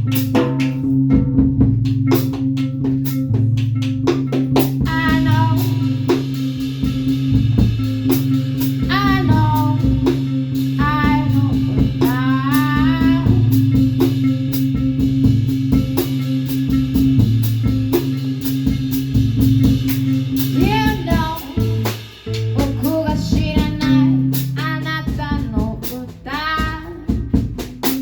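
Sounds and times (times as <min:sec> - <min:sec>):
repeating bass line: 0:00.0 - 0:27.4
drum kit beat: 0:00.0 - 0:28.0
lead line with bending notes: 0:00.0 - 0:28.0.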